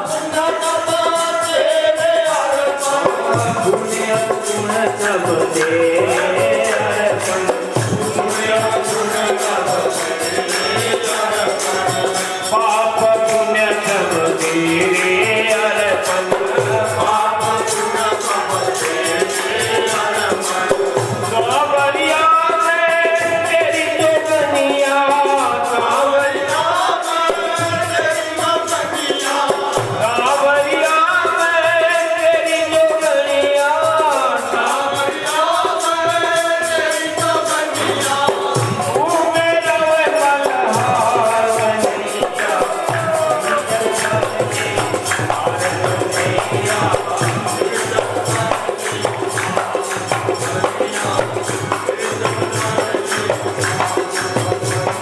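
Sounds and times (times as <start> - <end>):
jingling percussion: 0.0 - 55.0.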